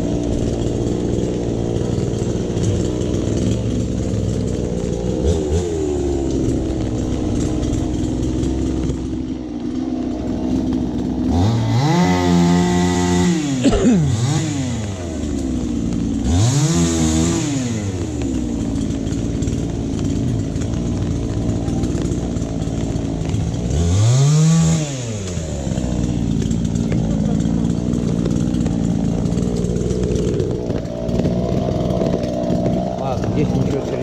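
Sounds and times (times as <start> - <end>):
chainsaw idling and revving: 0.0 - 34.0.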